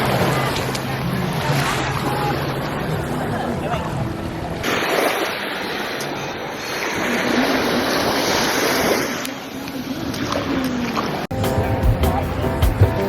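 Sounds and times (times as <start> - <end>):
rushing water: 0.0 - 11.3.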